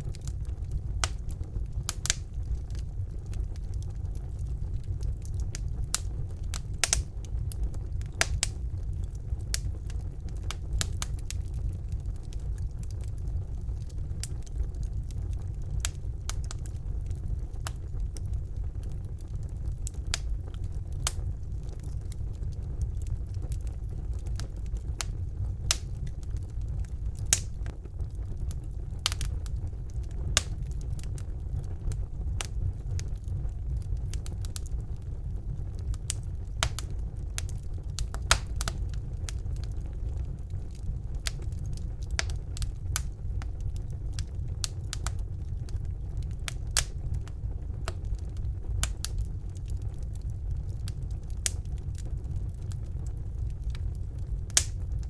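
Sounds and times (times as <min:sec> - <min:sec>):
crackles and pops of burning logs: 0:00.0 - 0:55.0
low rumble of flames: 0:00.0 - 0:55.0.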